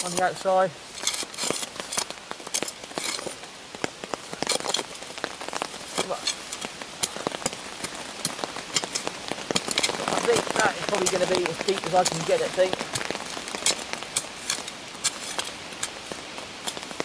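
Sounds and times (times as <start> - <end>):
shovel digging stony soil: 0.0 - 3.5, 4.3 - 5.0, 5.7 - 17.0.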